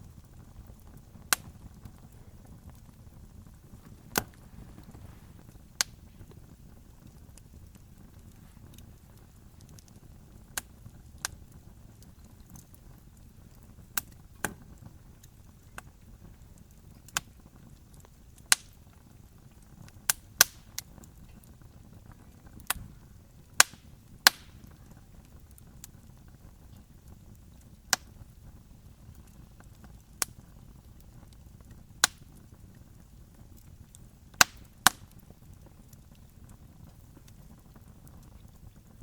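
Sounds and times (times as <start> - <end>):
campfire crackling and popping: 0.0 - 39.0
low steady rumble: 0.0 - 39.0.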